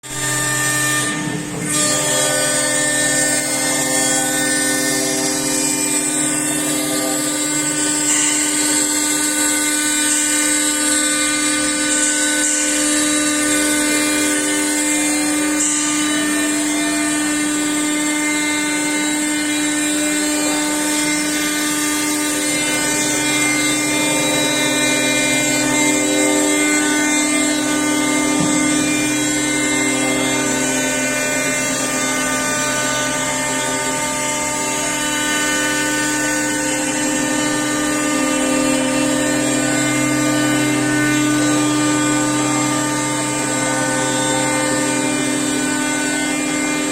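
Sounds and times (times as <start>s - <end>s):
router spindle whine: 0.0s - 46.9s.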